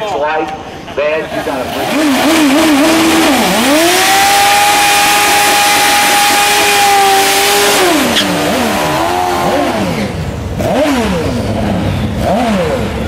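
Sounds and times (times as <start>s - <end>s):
drag bike engines revving: 0.0s - 13.0s.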